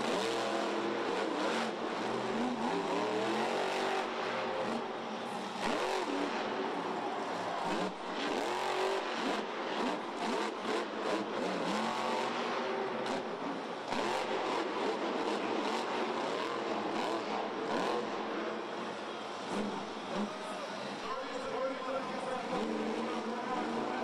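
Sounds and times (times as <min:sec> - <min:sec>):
truck engine revving hard: 0:00.0 - 0:20.5, 0:22.3 - 0:24.0.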